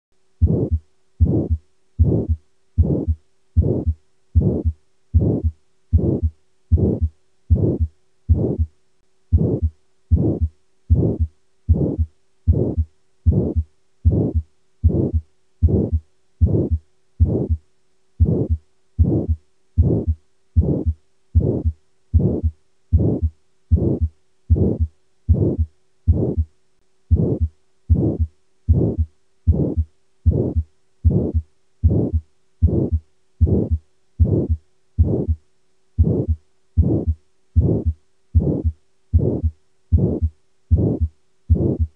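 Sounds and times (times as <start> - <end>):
heartbeat with murmur: 0.4 - 8.7, 9.3 - 17.6, 18.2 - 26.5, 27.1 - 35.4, 36.0 - 41.9.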